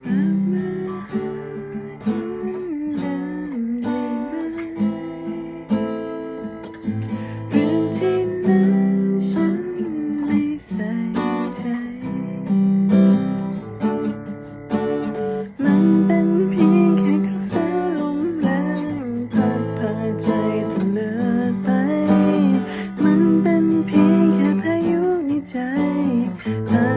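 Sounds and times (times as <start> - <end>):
guitar melody line: 0.0 - 26.9
strummed guitar chords: 0.0 - 26.9.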